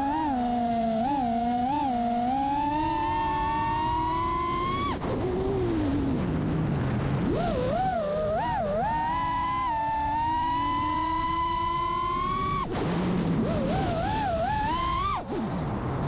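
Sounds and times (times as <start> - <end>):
drone motors whining: 0.0 - 15.7.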